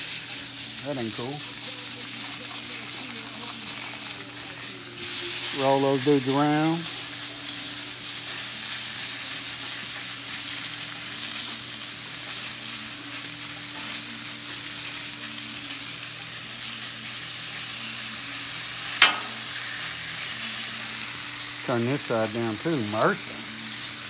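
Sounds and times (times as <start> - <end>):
sausages sizzling on griddle: 0.0 - 24.0.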